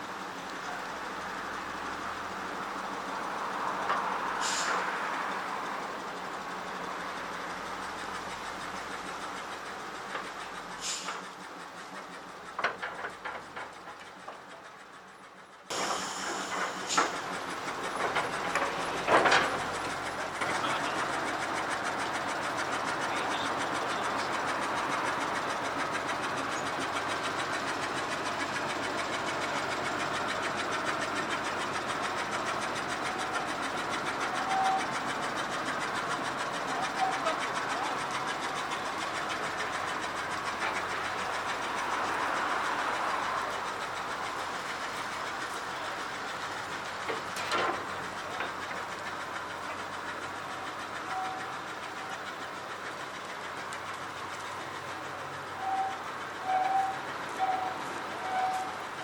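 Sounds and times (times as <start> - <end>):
railcar turntable mechanical rumble: 0.0 - 59.0.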